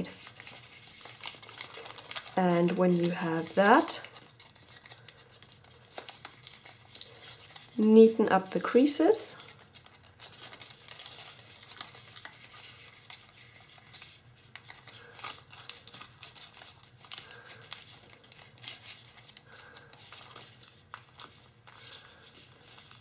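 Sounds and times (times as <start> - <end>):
foil paper rustling and crinkling: 0.0 - 23.0.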